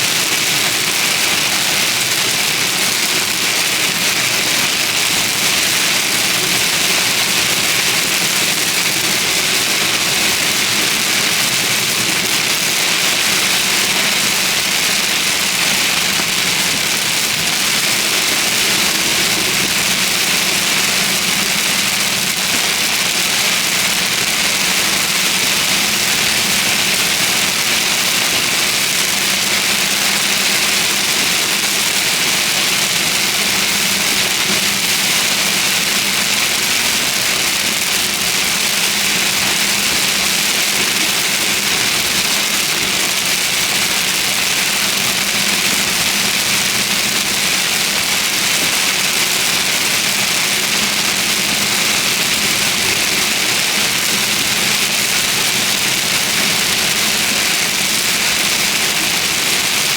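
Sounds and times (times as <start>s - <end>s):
rain on a vehicle: 0.0s - 59.9s.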